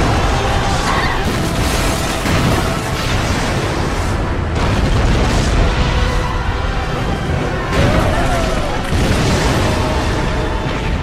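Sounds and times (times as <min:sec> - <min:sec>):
crashing flying debris: 0:00.0 - 0:11.0.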